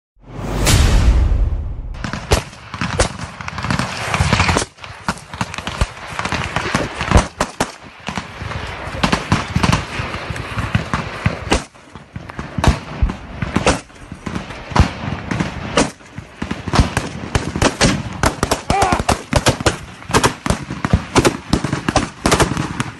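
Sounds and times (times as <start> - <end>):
small-arms gunshots: 0.6 - 22.9.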